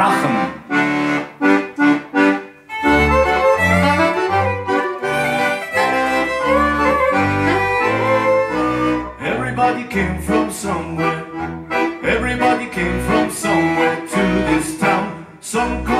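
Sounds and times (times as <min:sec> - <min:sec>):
folk band playing: 0:00.0 - 0:15.3
accordion chords: 0:00.0 - 0:15.9
double bass low notes: 0:00.0 - 0:15.9.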